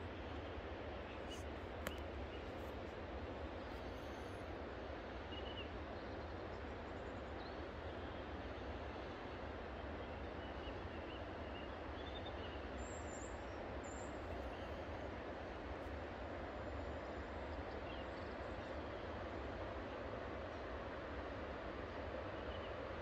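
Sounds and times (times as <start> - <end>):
outdoor background rush: 0.0 - 23.0.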